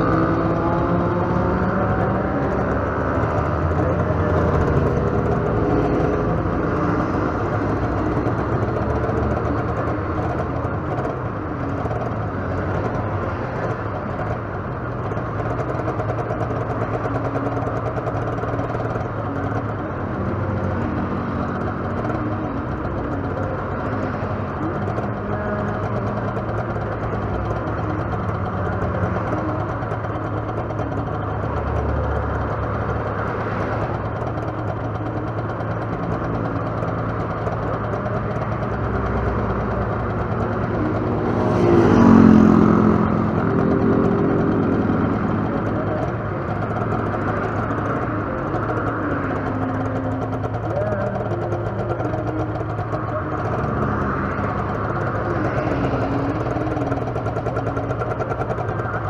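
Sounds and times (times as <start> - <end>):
motorcycle engine idling: 0.0 - 59.0
traffic passing: 0.0 - 59.0
vehicle engine pulling away: 0.0 - 59.0.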